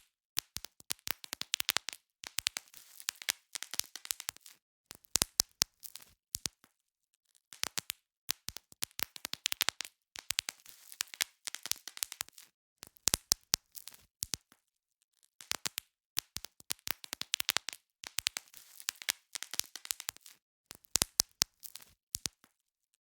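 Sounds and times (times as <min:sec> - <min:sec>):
bubble wrap popping: 0:00.0 - 0:06.7, 0:07.5 - 0:14.6, 0:15.4 - 0:22.5.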